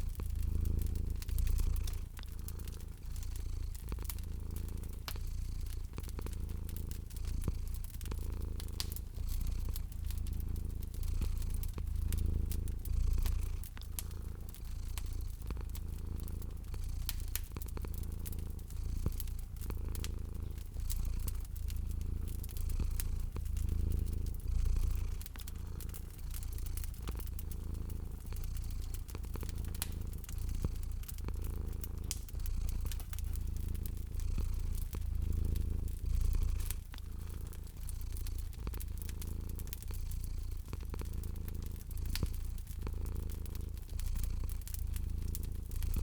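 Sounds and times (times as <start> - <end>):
cat purring: 0.0 - 46.0
wood fire crackling and popping: 0.0 - 46.0.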